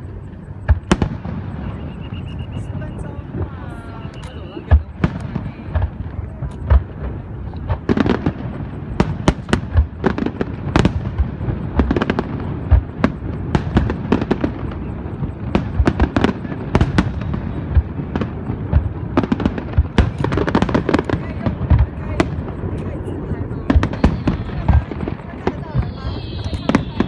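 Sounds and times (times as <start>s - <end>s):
fireworks bursting: 0.0s - 27.0s.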